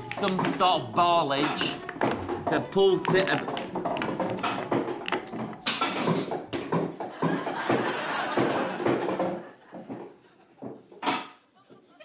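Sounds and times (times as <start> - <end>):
pool balls clacking: 0.0 - 11.5.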